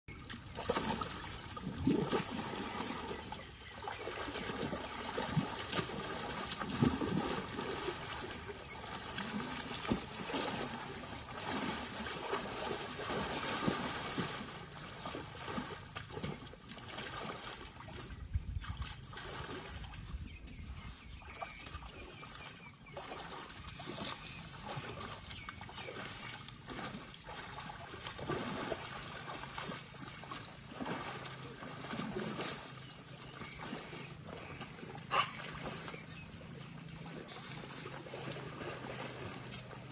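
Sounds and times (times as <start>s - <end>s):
muddy water splashing: 0.1s - 39.9s.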